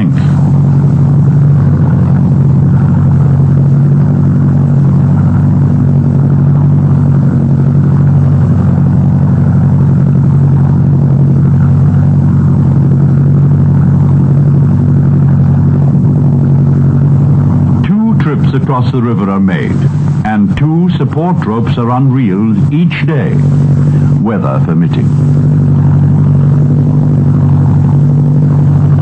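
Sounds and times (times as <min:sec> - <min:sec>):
loud low drone: 0:00.0 - 0:29.0.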